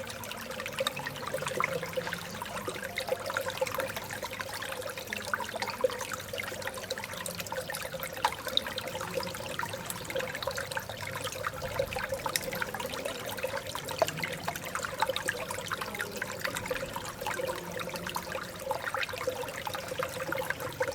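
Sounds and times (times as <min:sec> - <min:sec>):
stream babbling: 0:00.0 - 0:20.9.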